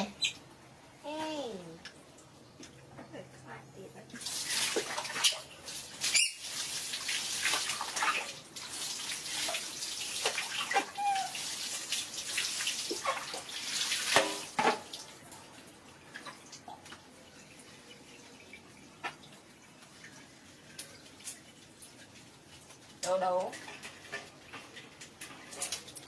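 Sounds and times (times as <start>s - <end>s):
water running and splashing: 4.0s - 26.0s.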